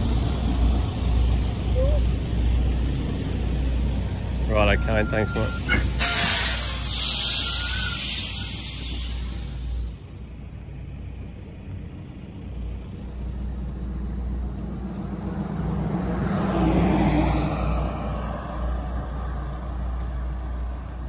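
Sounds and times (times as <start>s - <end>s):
vehicle passing on highway: 0.0s - 5.0s, 8.6s - 21.0s
steady low rumble: 0.0s - 6.0s, 8.0s - 21.0s.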